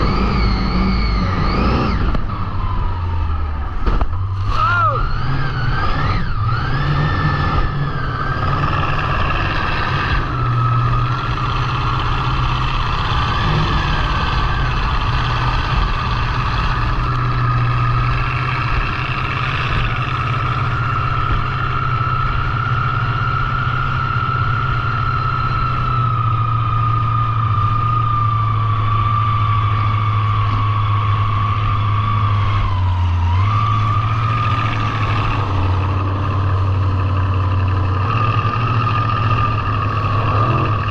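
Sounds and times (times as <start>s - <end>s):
high engine whine: 0.0s - 40.9s
motorboat engine drone: 0.0s - 40.9s.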